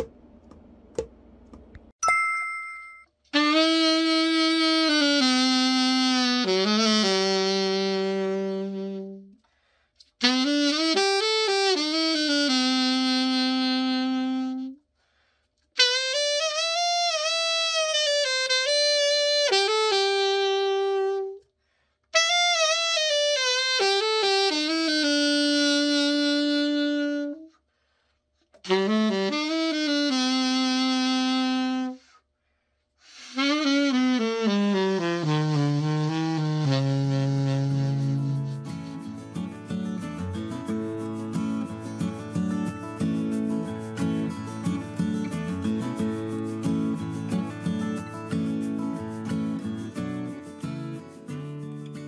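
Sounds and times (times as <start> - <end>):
solo alto saxophone: 3.3 - 14.9, 15.8 - 21.5, 22.1 - 32.2, 33.0 - 52.0.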